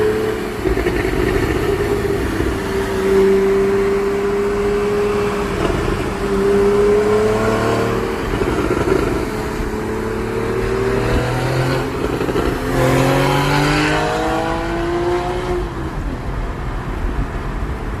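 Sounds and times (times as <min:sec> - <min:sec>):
car engine accelerating: 0:00.0 - 0:15.8.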